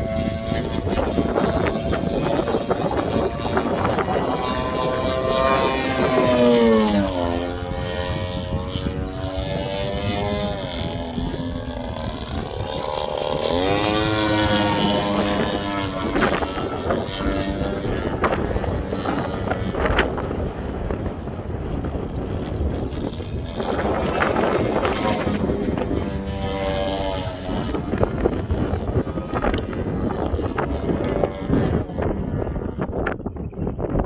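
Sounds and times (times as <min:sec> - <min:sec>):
model airplane engine: 0:00.0 - 0:34.0
wind on microphone: 0:00.0 - 0:34.0.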